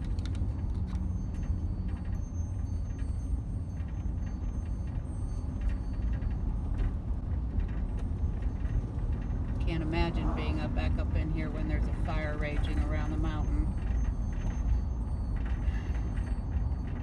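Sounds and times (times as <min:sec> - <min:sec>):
light rattles and clicks: 0:00.0 - 0:17.0
van driving rumble: 0:00.0 - 0:17.0.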